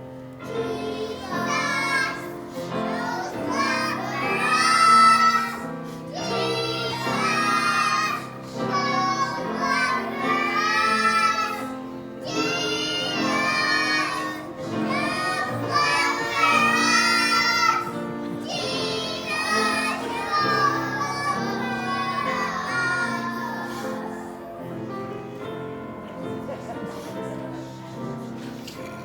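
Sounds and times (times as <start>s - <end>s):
child singing: 0.4s - 24.5s.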